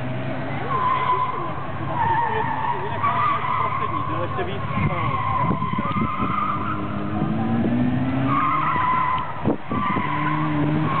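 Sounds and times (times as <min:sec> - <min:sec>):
car engine revving hard: 0:00.0 - 0:11.0
tyres squealing: 0:00.5 - 0:11.0.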